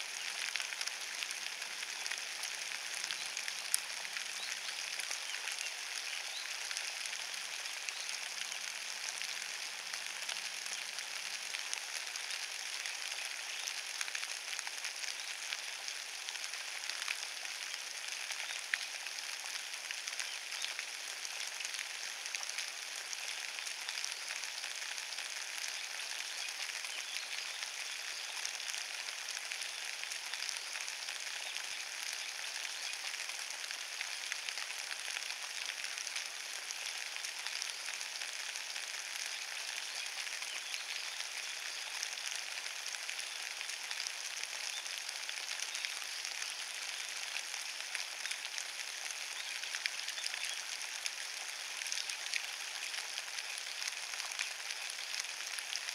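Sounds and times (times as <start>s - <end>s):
rain on wet leaves: 0.0s - 55.9s.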